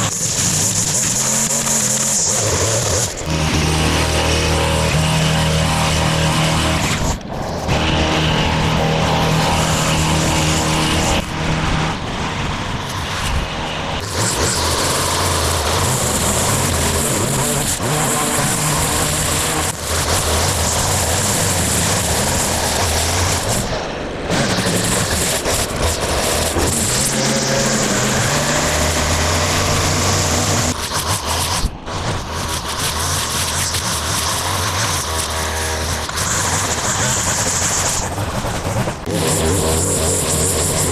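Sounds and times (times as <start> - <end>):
motor engine running: 0.0 - 40.9.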